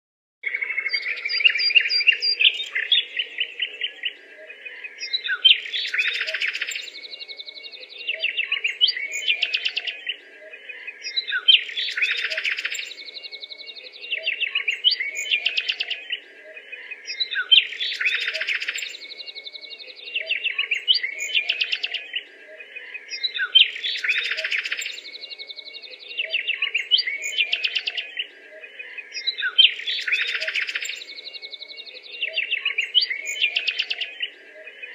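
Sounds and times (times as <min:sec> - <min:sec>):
birds chirping: 0:00.4 - 0:34.9.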